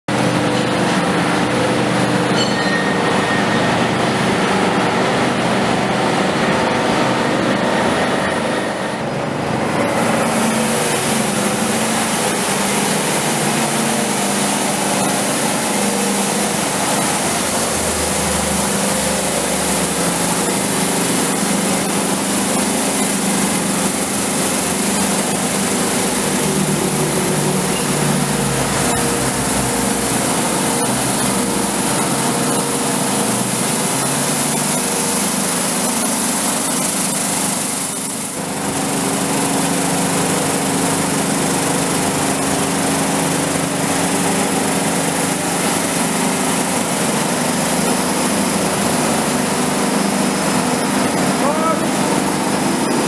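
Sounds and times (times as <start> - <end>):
sorting machine hum and hiss: 0.1 - 53.0.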